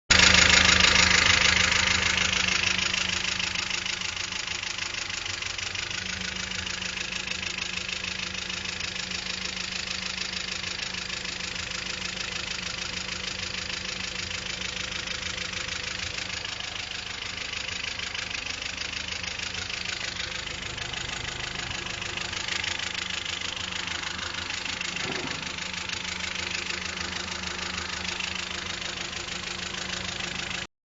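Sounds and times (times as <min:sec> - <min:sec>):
car engine idling: 0:00.1 - 0:30.7.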